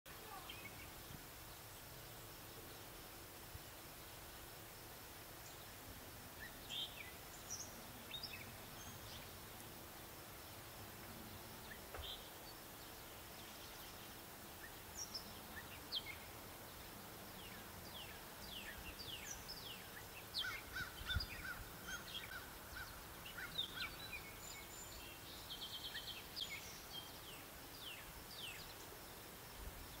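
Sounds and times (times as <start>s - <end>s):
outdoor background noise: 0.1s - 30.0s.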